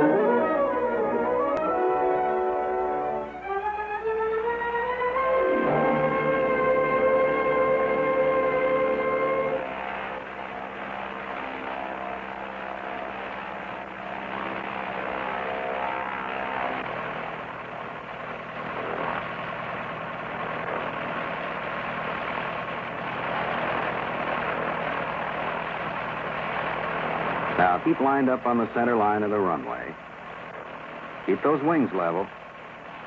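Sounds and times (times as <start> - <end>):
propeller airplane droning: 0.0 - 33.0.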